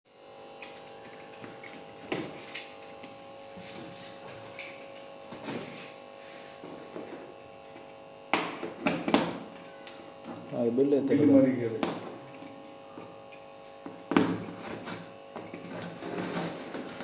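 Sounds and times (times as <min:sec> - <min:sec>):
electric hum: 0:00.1 - 0:17.0.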